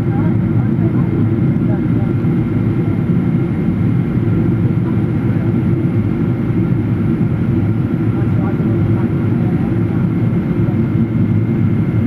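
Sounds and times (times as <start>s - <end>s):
jet engines and rushing air: 0.0s - 12.0s.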